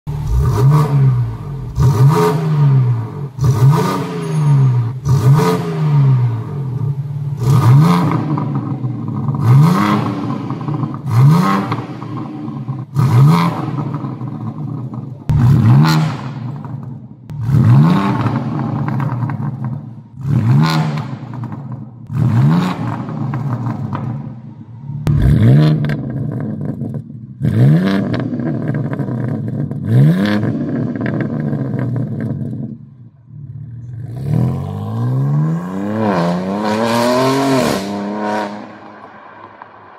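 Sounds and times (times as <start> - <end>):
car engine revving: 0.1 - 32.6, 33.3 - 39.9.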